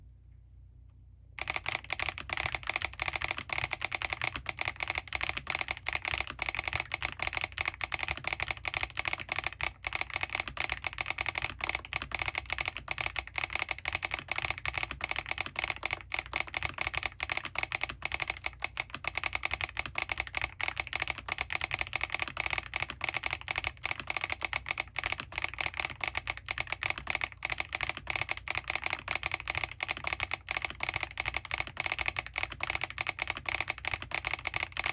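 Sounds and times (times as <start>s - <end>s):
fast typing on mechanical keyboard: 1.4s - 34.9s.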